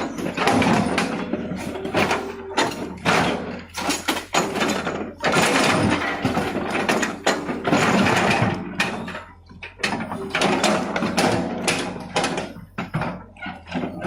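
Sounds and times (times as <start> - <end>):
heavy machinery clanking: 0.0 - 14.0.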